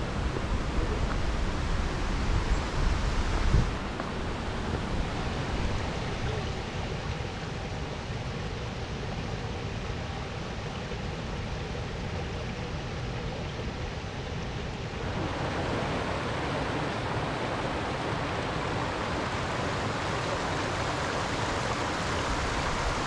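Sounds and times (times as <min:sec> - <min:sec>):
stream rushing over rocks: 0:00.0 - 0:23.0
wind rumble on microphone: 0:00.0 - 0:23.0.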